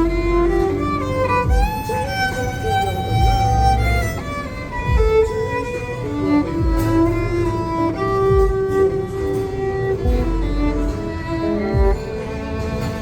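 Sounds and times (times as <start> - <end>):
backing track with deep bass: 0.0 - 13.0
violin playing slow melody: 0.0 - 13.0.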